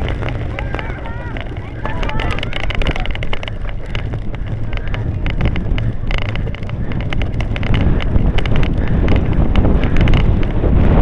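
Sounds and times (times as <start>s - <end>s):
bike rattles and clicks: 0.0s - 11.0s
wind buffeting microphone: 0.0s - 11.0s.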